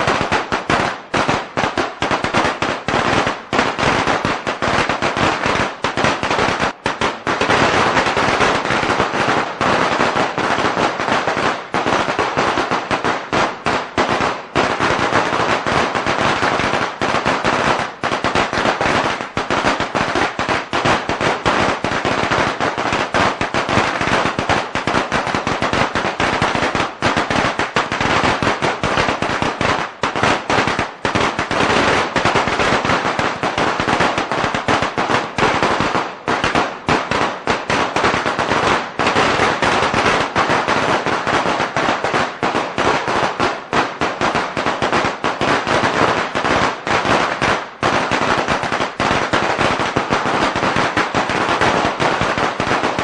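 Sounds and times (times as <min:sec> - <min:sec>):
firecrackers crackling: 0:00.0 - 0:53.0.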